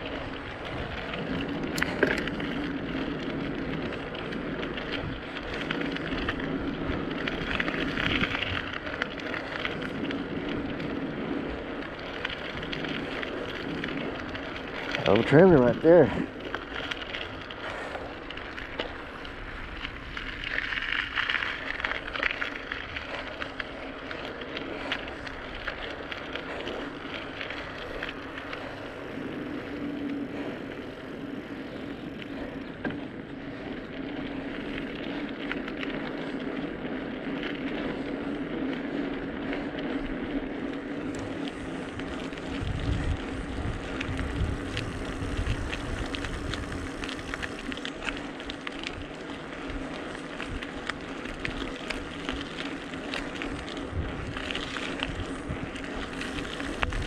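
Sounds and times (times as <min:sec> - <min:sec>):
wind rushing over microphone: 0:00.0 - 0:24.0, 0:24.6 - 0:57.0
tyre noise on pavement: 0:00.0 - 0:57.0.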